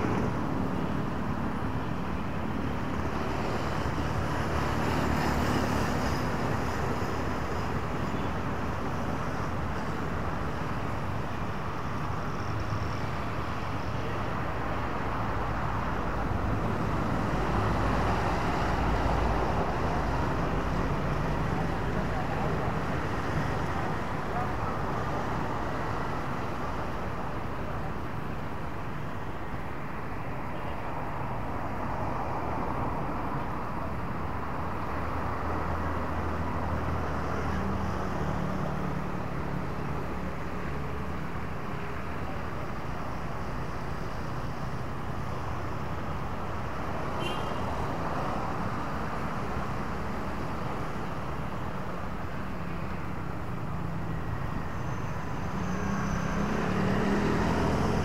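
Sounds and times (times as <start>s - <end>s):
cars and motorbikes passing: 0.0s - 58.0s.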